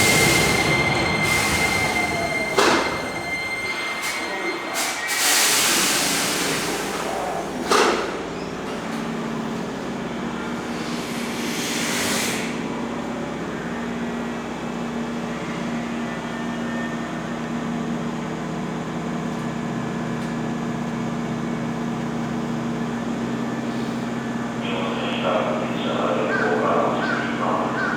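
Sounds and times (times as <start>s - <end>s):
electric train humming: 0.0s - 27.9s.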